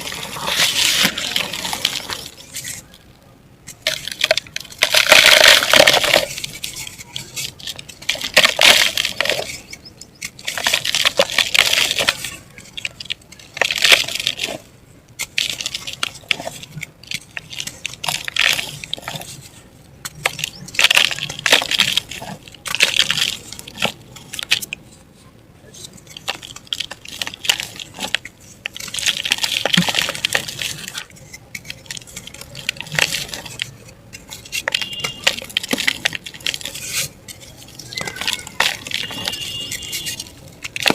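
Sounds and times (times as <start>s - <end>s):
pieces snapping and falling: 0.0s - 3.0s, 3.7s - 14.6s, 15.2s - 19.4s, 20.0s - 24.8s, 25.8s - 40.9s
dry mud crumbling: 0.0s - 40.9s.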